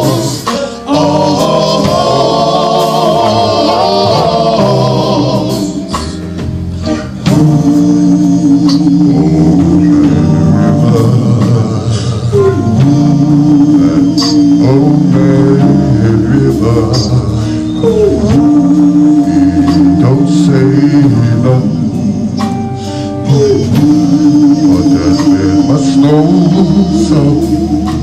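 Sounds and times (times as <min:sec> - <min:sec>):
man singing: 0:00.0 - 0:06.2, 0:06.8 - 0:28.0
rhythm and blues band playing: 0:00.0 - 0:28.0.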